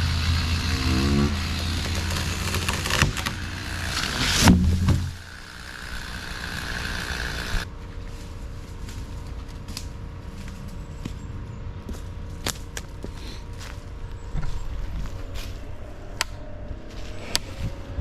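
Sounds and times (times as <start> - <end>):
engine running at low speed: 0.0 - 18.0.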